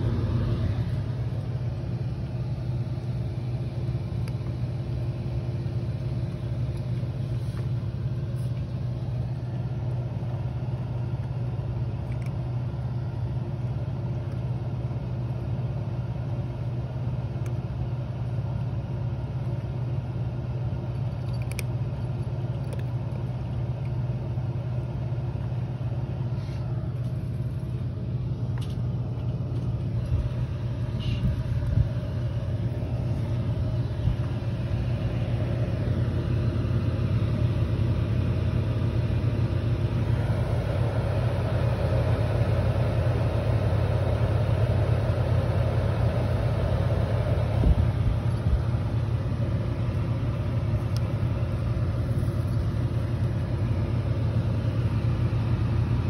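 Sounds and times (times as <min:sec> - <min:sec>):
air cooler fan humming: 0:00.0 - 0:56.0.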